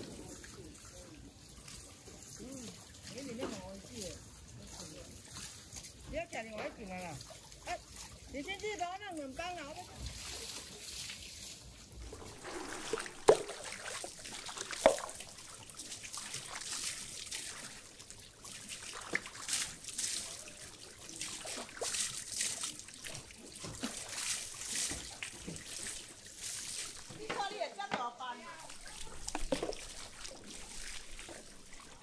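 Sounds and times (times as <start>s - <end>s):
water trickling and splashing: 0.0s - 32.0s.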